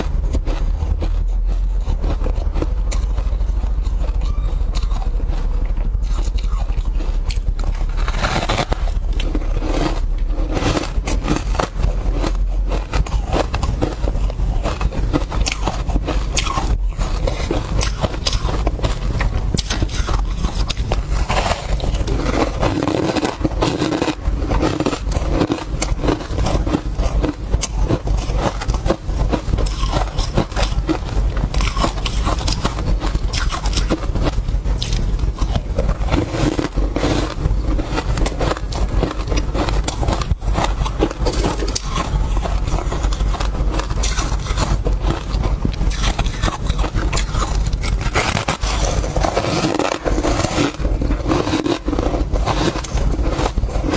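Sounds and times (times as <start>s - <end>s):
ice crunching: 0.0s - 53.9s.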